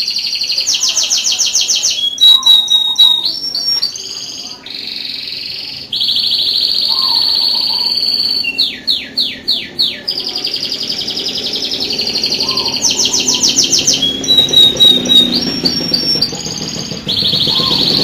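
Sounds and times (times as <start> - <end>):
canary singing trills: 0.0 - 18.0.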